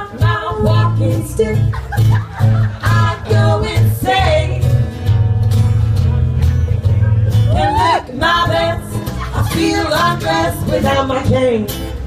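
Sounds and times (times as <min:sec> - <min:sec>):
live band playing: 0:00.0 - 0:12.0
plucked bass line: 0:00.0 - 0:12.0.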